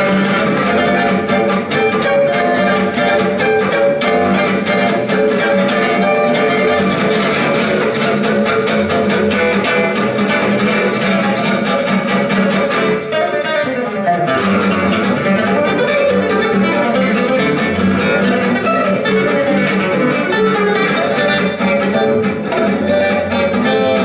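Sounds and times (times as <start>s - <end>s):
plucked double bass: 0.0s - 13.2s, 14.1s - 24.0s
lead guitar melody: 0.0s - 24.0s
rhythm guitar strumming: 0.0s - 24.0s.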